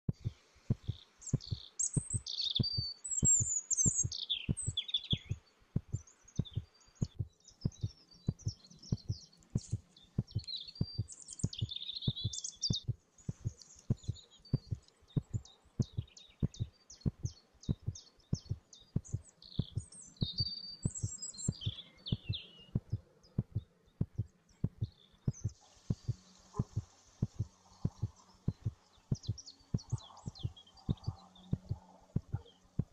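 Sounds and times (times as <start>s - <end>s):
small birds chirping: 0.0s - 32.9s
steady low thump: 0.1s - 1.6s, 5.8s - 20.4s, 21.5s - 32.9s.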